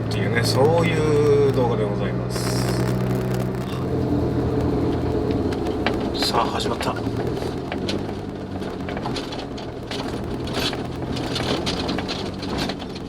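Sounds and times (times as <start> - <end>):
car engine running: 0.0 - 13.0
tyres crunching on gravel: 0.0 - 13.0.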